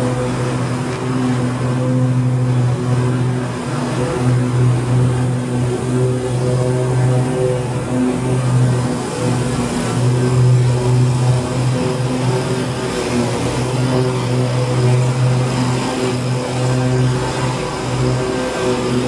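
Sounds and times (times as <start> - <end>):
mower engine drone: 0.0 - 19.0.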